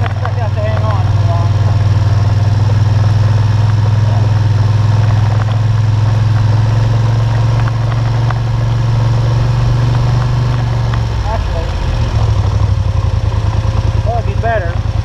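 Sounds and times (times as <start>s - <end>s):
atv engine humming: 0.0s - 15.0s.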